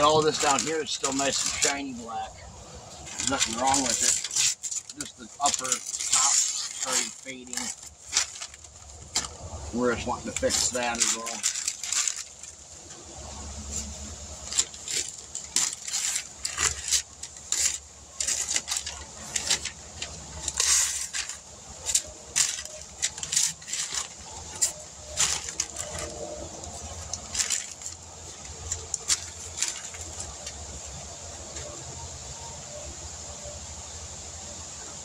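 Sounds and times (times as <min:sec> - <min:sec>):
paper and tape crackling and tearing: 0:00.0 - 0:02.3, 0:02.9 - 0:32.1.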